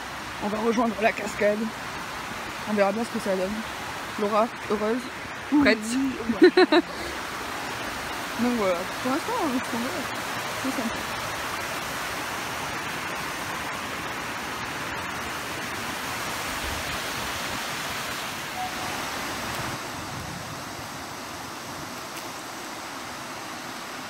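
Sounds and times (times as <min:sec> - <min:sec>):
river water rushing over rapids: 0:00.0 - 0:24.0.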